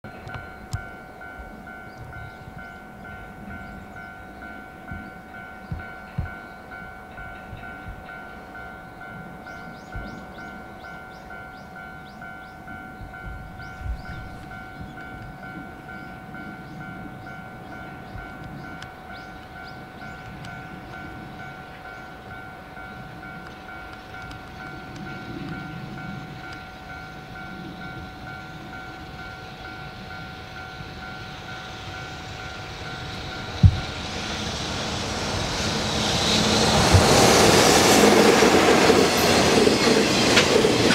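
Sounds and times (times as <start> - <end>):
train rumble and wheel noise: 0.0 - 40.9.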